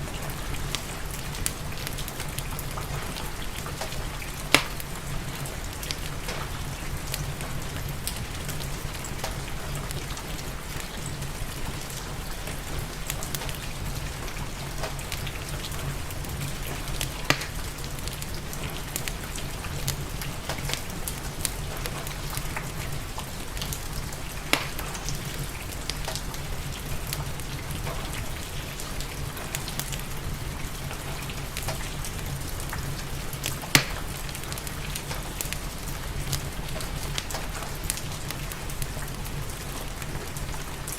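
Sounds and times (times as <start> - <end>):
steady rain: 0.0 - 40.9
wood fire crackling and popping: 0.0 - 40.9.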